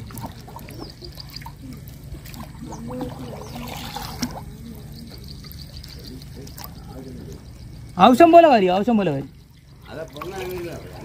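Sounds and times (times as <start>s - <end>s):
paddle splashing water: 0.0s - 11.0s
water trickling and dripping: 0.0s - 11.0s.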